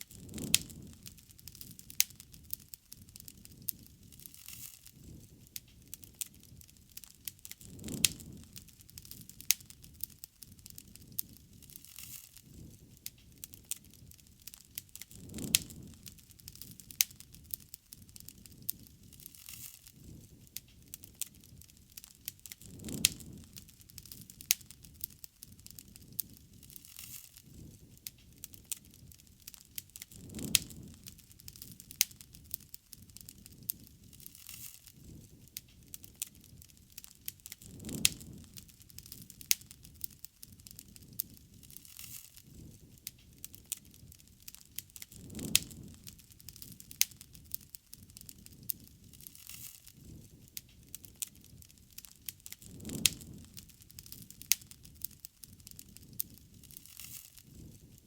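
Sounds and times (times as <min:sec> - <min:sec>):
bonfire pops and snaps: 0:00.0 - 0:58.0
low rush of flame: 0:00.0 - 0:58.0.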